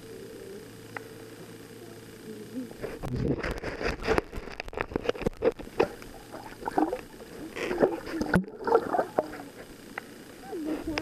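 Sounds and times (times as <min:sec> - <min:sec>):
muffled underwater gurgling: 0:00.0 - 0:11.0.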